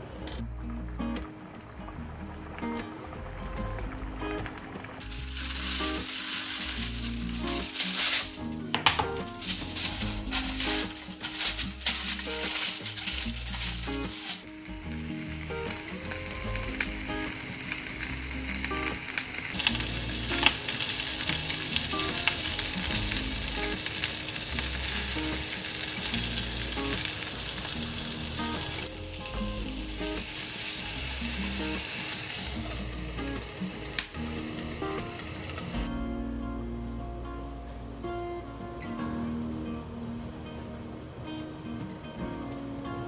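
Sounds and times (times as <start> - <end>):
fish sizzling in frying pan: 0.4 - 35.9.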